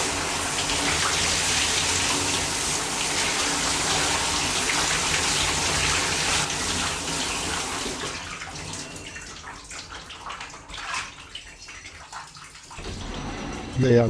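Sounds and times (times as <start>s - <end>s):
shower water spraying: 0.0s - 13.0s
water drips and splashes: 0.0s - 13.0s.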